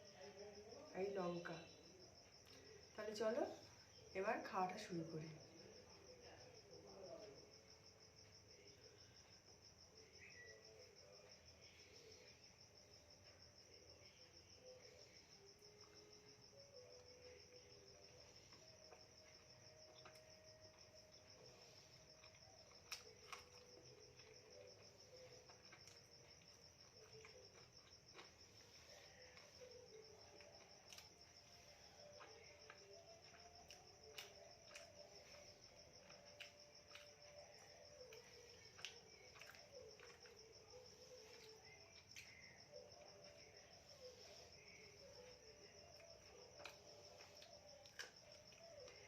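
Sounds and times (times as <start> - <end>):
cricket trill: 0.0 - 49.0.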